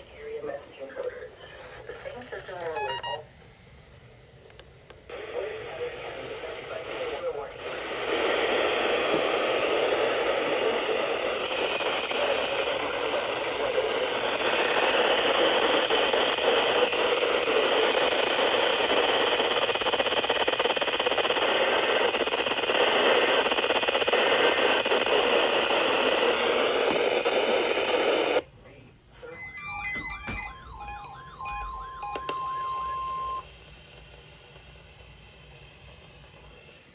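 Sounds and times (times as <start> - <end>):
radio static hiss: 0.0 - 36.9.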